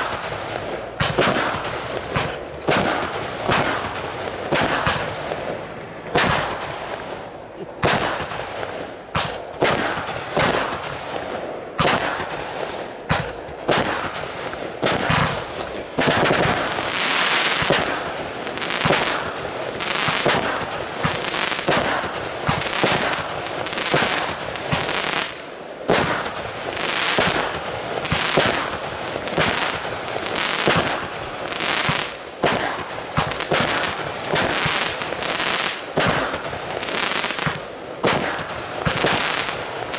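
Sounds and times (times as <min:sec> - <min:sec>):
fireworks bangs: 0:00.0 - 0:39.9
steady hiss: 0:00.0 - 0:39.9.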